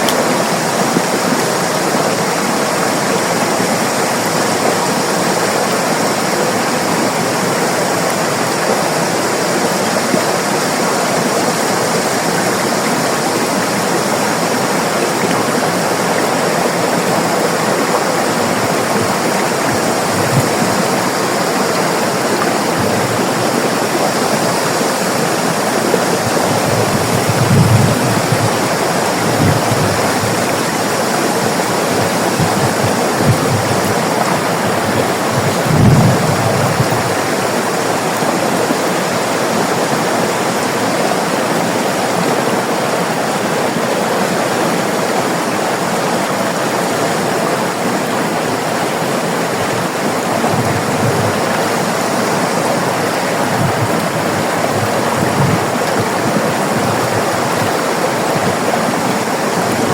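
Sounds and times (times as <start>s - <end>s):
river water over rocks: 0.0s - 59.9s.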